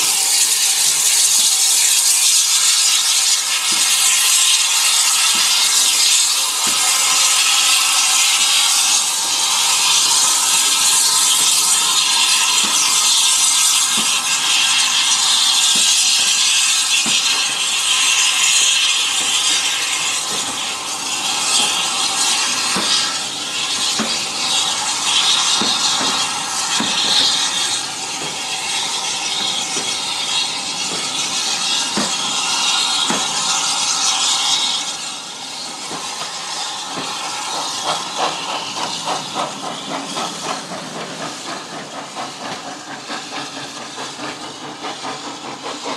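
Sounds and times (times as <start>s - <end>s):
loud hiss of steam: 0.0s - 45.9s
steam train rolling: 0.0s - 45.9s
wheels clicking on track: 0.0s - 45.9s.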